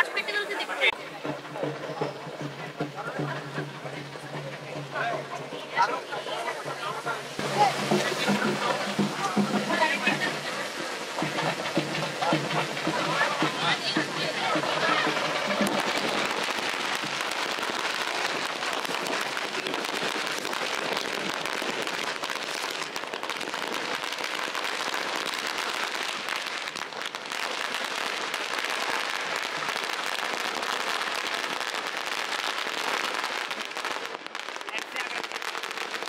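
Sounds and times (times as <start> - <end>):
firecrackers crackling: 0.0 - 36.0.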